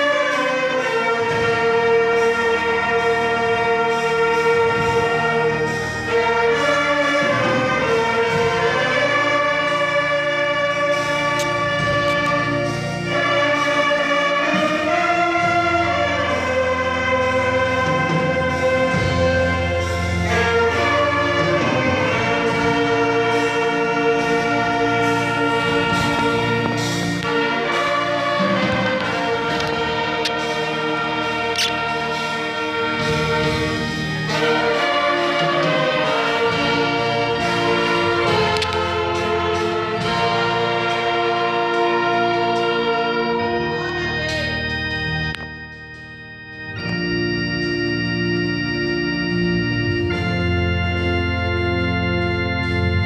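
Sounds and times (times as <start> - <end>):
orchestra with brass playing hymn: 0.0 - 53.0.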